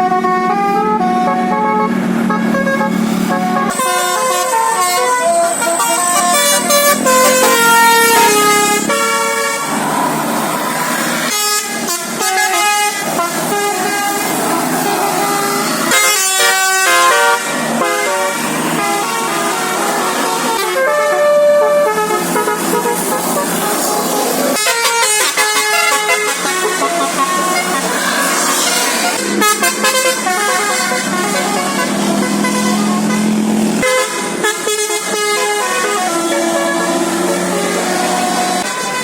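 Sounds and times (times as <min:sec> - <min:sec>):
musical air horn playing melody: 0:00.0 - 0:10.2, 0:10.8 - 0:39.0.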